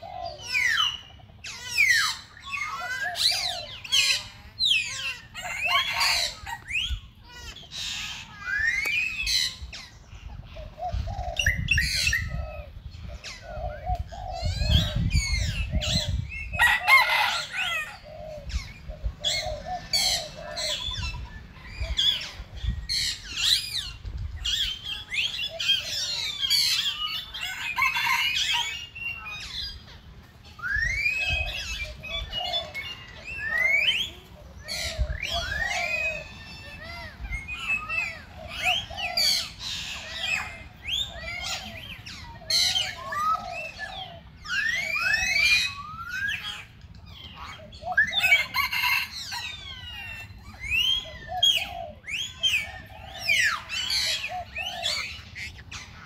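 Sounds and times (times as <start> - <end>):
birds chirping and whistling: 0.0 - 56.0.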